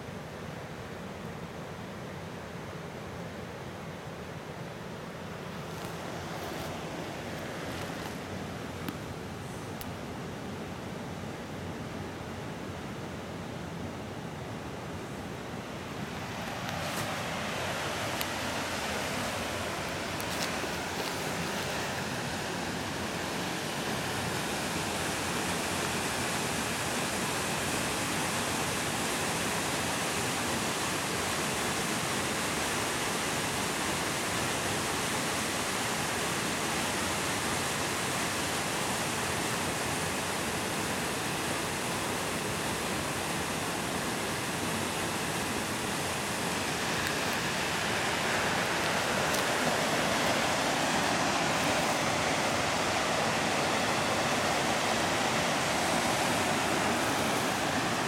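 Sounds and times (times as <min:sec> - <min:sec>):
waterfall rushing: 0:04.9 - 0:10.8, 0:15.3 - 0:58.0.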